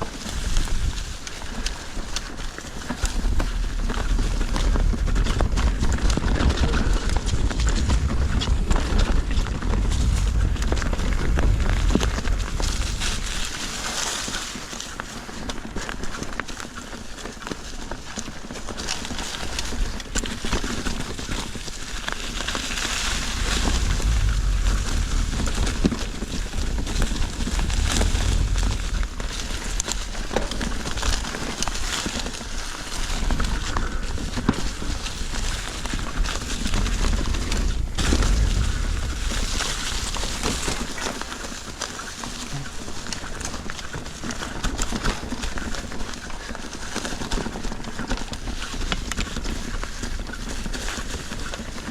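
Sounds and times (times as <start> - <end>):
bike rattling and knocking: 0.0 - 51.9
tyres crunching over dirt and rock: 0.0 - 51.9
wind rumble on microphone: 0.0 - 51.9.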